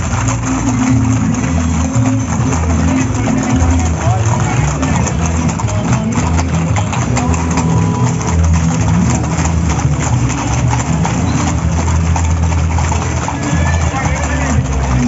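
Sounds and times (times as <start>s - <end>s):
hooves clip-clopping on pavement: 0.0s - 15.0s.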